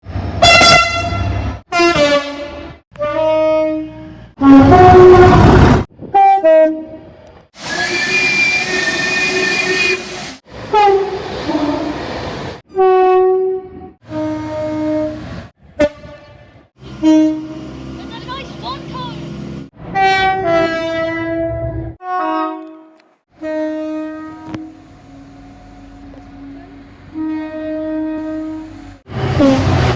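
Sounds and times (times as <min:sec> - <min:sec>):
train horn blasts: 0:00.4 - 0:05.5, 0:07.6 - 0:11.9, 0:12.7 - 0:17.8, 0:19.9 - 0:29.8.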